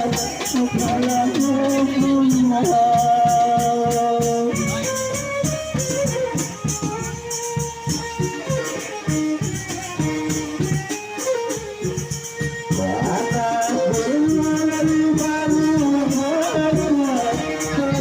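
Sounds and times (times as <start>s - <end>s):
drums and rattling percussion: 0.0s - 18.0s.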